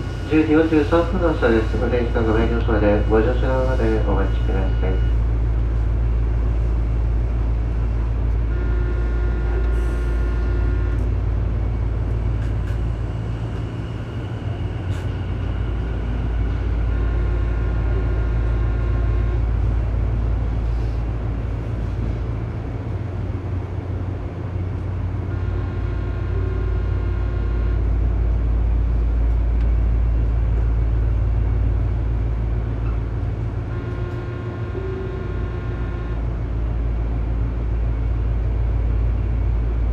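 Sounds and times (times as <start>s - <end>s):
train equipment low hum: 0.0s - 39.9s.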